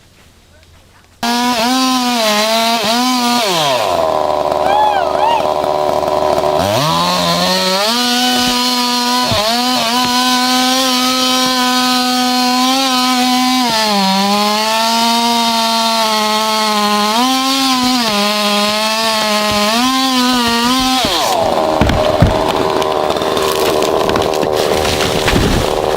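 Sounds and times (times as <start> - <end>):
chainsaw cutting at full throttle: 1.2 - 25.9.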